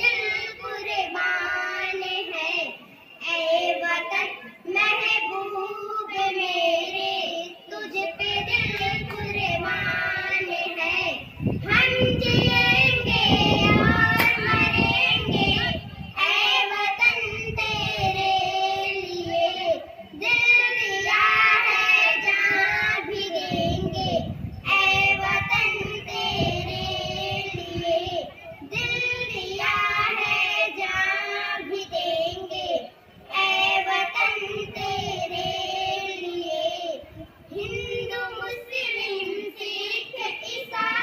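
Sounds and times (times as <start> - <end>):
girls singing into a microphone: 0.0 - 41.0.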